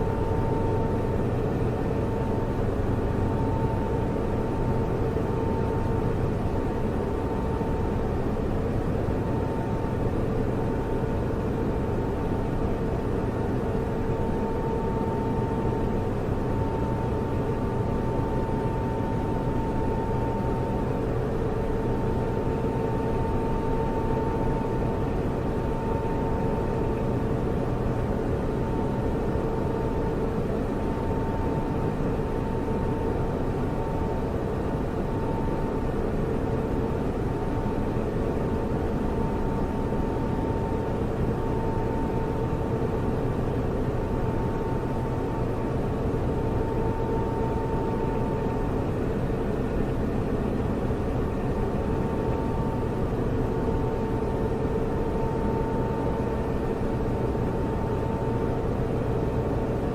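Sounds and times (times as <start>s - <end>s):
server cooling fans humming: 0.0s - 59.9s.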